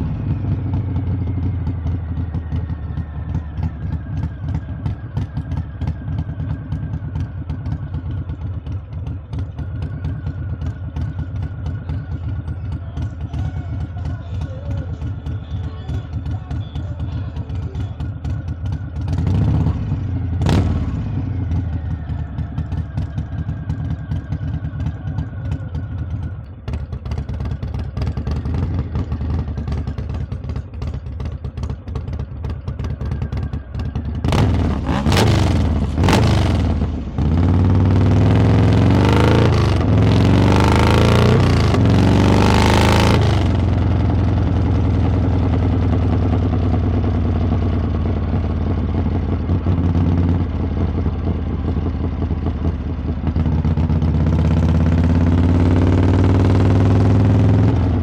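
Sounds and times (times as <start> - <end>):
motorcycle exhaust rumbling: 0.0 - 58.0.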